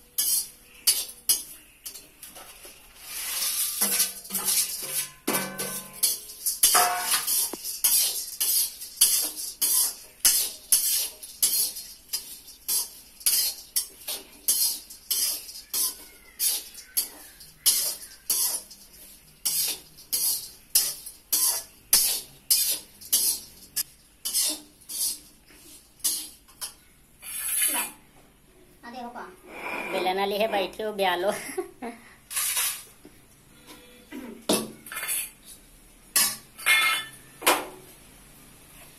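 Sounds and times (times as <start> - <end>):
metal spatula scraping wok: 0.0 - 28.0, 32.3 - 34.1, 34.8 - 37.4.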